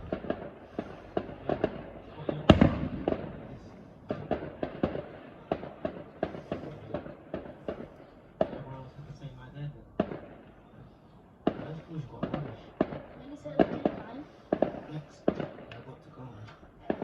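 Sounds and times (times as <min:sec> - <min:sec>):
fireworks crackling: 0:00.0 - 0:09.4, 0:11.4 - 0:17.0
fireworks banging and popping: 0:00.0 - 0:17.0.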